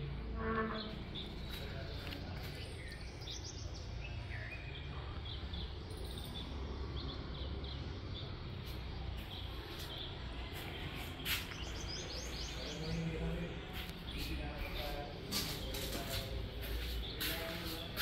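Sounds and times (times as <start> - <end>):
small birds chirping: 0.7 - 18.0.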